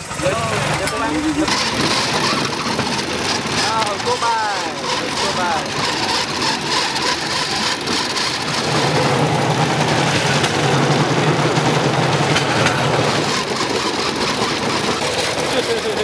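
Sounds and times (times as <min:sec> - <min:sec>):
small engine droning: 0:00.0 - 0:16.0
steady rushing noise: 0:00.0 - 0:16.0.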